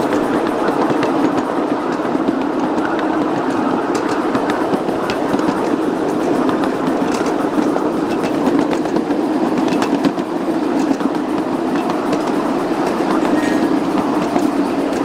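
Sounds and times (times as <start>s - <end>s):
clicks over rail joints: 0.0s - 15.0s
train wheels rumbling: 0.0s - 15.0s.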